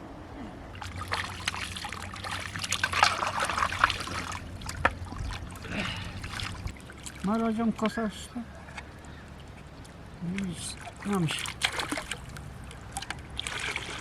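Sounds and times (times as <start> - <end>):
water trickling and splashing: 0.6 - 14.0.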